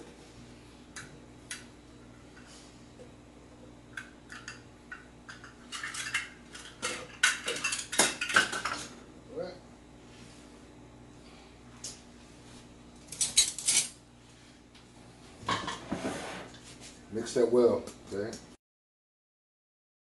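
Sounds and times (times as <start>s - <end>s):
faint steady hum: 0.0s - 18.6s.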